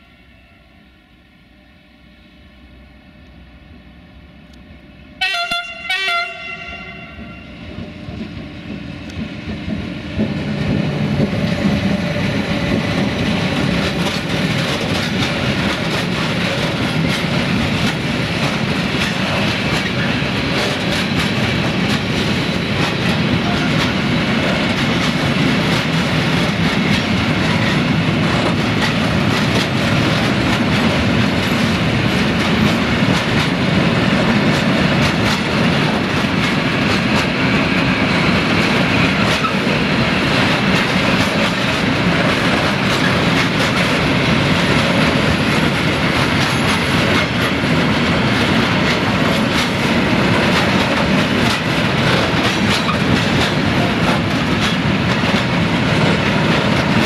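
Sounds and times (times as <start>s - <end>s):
train wheels rumbling on rail: 1.5s - 57.0s.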